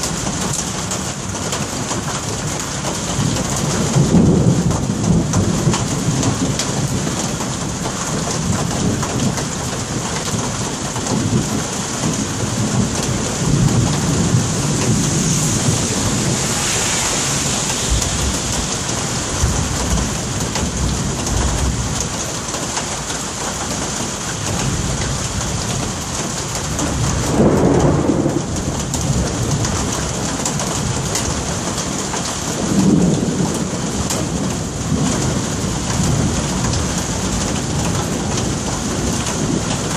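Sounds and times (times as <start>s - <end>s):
thunder rumbling: 0.0s - 22.2s, 24.4s - 39.9s
steady rain falling: 0.0s - 39.9s.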